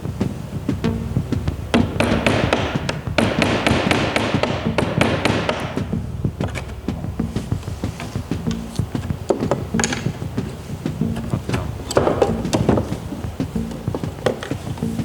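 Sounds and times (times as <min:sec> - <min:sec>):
faint background music: 0:00.0 - 0:15.0
rasping hiss: 0:00.0 - 0:15.0
tapping on wood: 0:00.2 - 0:15.0.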